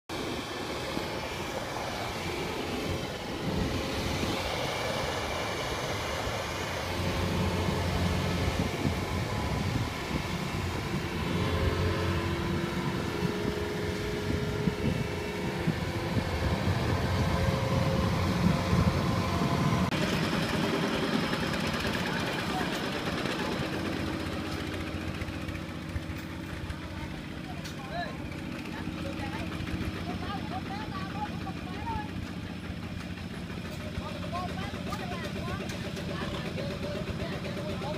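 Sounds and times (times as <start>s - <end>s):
another engine: 0.1s - 37.9s
combine harvester diesel engine: 0.1s - 37.9s.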